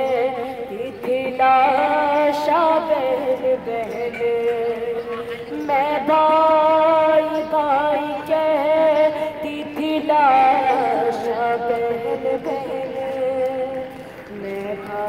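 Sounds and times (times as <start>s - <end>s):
woman singing a lament: 0.0s - 15.0s.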